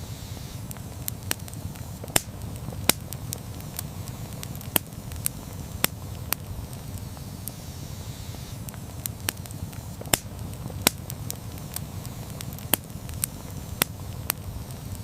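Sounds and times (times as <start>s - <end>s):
flame low rumble: 0.0s - 15.0s
burning wood pops and crackles: 0.4s - 15.0s.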